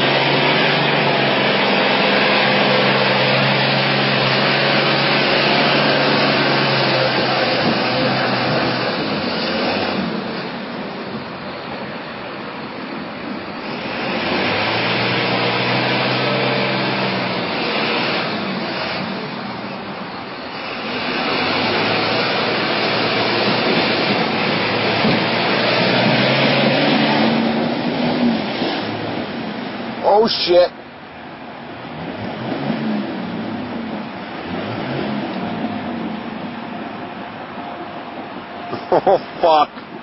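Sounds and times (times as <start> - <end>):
truck engine revving: 0.0 - 11.2, 13.5 - 30.6, 31.8 - 37.5.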